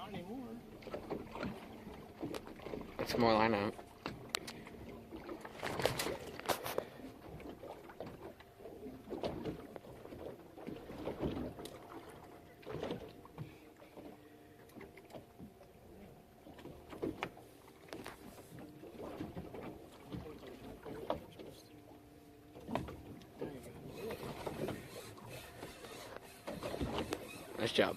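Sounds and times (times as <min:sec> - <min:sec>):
water sloshing against hull: 0:00.0 - 0:27.9.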